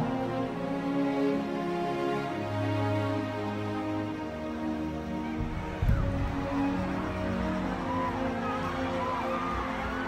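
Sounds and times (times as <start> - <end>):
music with long held notes: 0.0 - 10.0.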